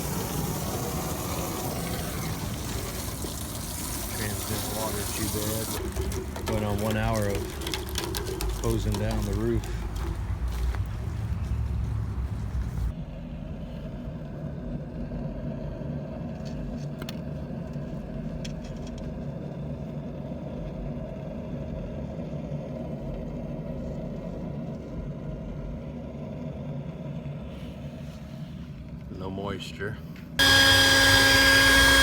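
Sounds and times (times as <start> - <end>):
hvac unit humming: 0.0 - 32.0.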